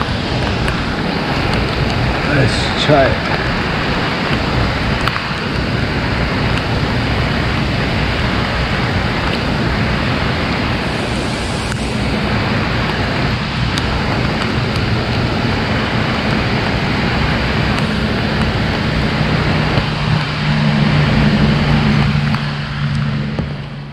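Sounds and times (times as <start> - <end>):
rain and rushing water: 0.0 - 23.9.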